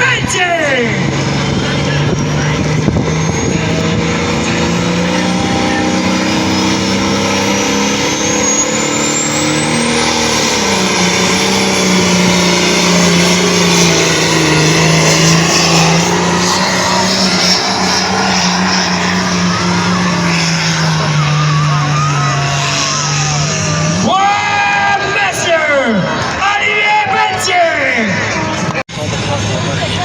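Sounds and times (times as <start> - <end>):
vehicle engine running under load: 0.0 - 26.4.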